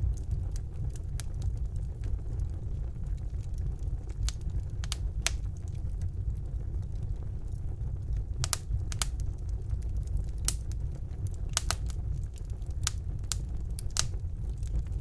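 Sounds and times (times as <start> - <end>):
fire flames rumbling: 0.0 - 15.0
wood fire crackling and popping: 0.0 - 15.0.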